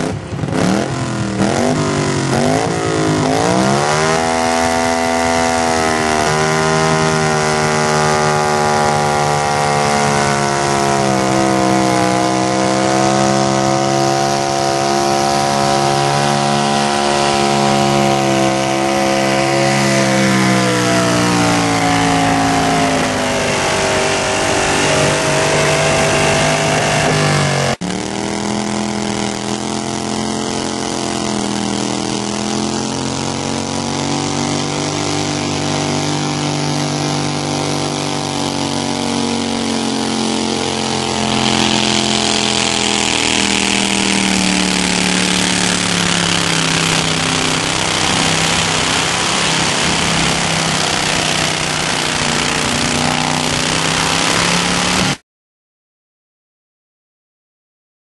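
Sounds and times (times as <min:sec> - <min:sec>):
engine running with wavering pitch: 0:00.0 - 0:55.2
tractor engine running hard: 0:00.0 - 0:55.2.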